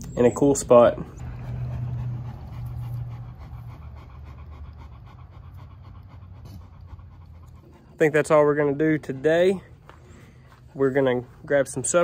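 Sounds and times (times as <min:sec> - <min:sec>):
dog panting: 0:01.0 - 0:12.0.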